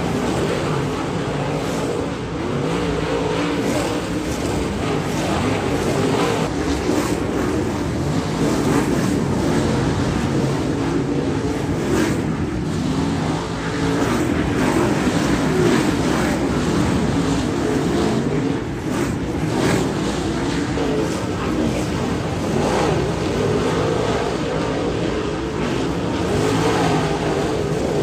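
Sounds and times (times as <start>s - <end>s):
race car engines roaring: 0.0s - 28.0s.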